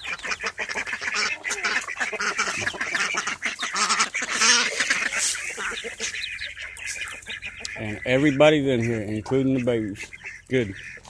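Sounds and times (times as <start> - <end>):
chickens squawking and clucking: 0.0 - 11.0.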